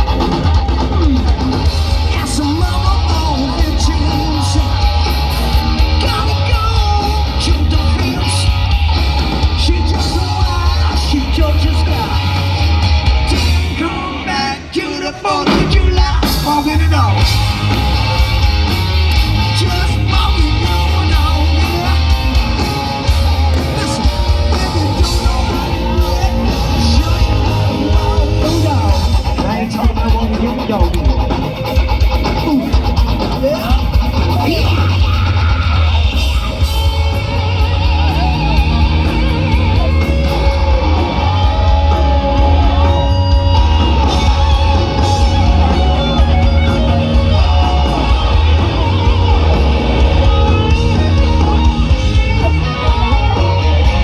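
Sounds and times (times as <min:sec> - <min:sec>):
lead singer singing: 0:00.0 - 0:54.0
rock band playing live: 0:00.0 - 0:54.0.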